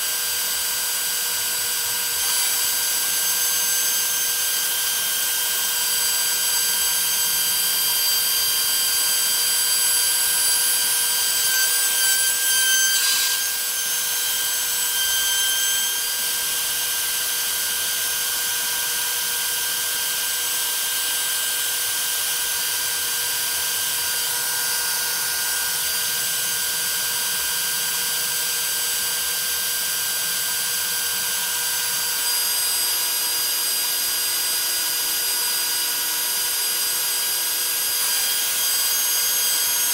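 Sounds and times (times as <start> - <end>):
router whining while milling metal: 0.0 - 39.9.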